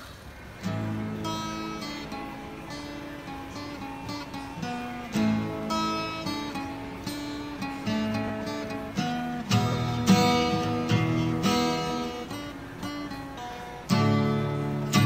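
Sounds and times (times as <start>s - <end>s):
acoustic guitar chords: 0.3s - 15.0s.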